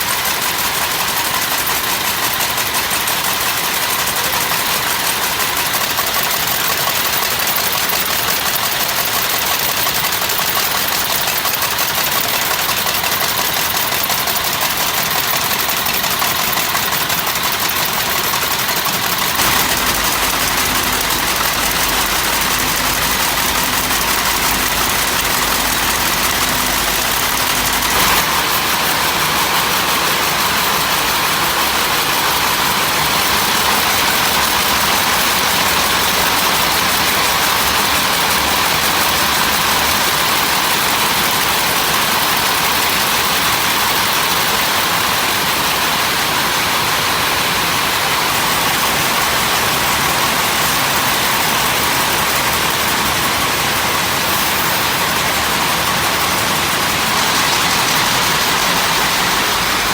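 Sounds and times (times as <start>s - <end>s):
machinery noise: 0.0s - 45.6s, 46.4s - 59.9s.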